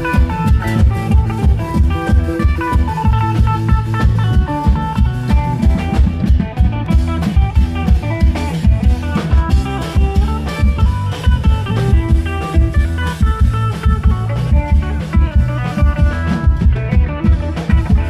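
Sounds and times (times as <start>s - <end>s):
plucked string melody: 0.0s - 18.0s.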